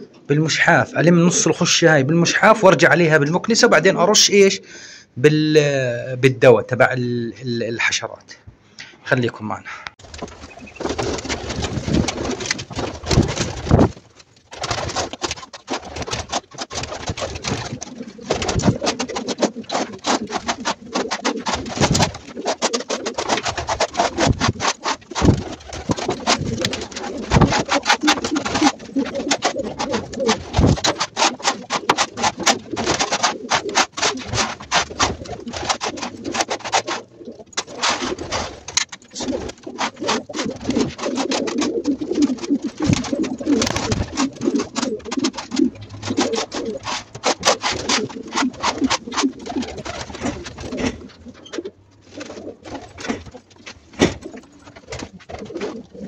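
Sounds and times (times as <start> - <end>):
pigeons cooing: 10.0 - 56.0.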